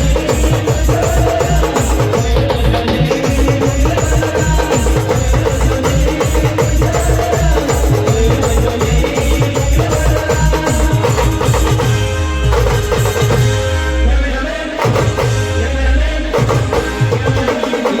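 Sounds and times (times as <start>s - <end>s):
heavy drum beat: 0.0s - 18.0s.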